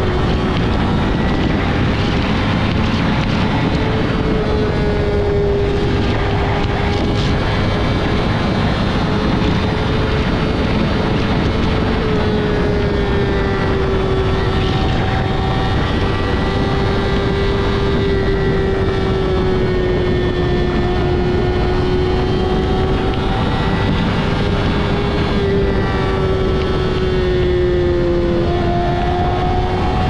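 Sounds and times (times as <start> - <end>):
motorcycle engine running: 0.0 - 30.0
wind rushing past microphone: 0.0 - 30.0.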